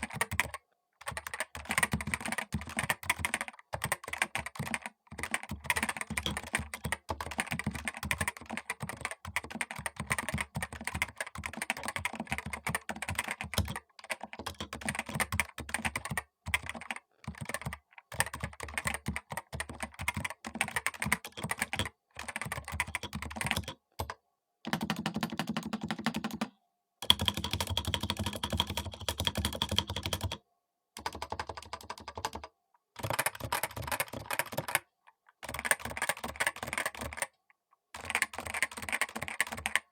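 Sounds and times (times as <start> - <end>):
typing on a keyboard: 0.0 - 30.4, 31.0 - 37.4, 38.0 - 39.9.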